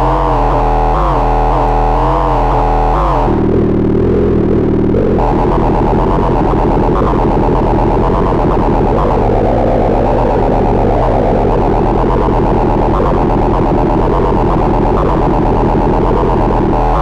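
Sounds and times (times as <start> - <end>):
gritty synth noise fluttering: 0.0 - 17.0.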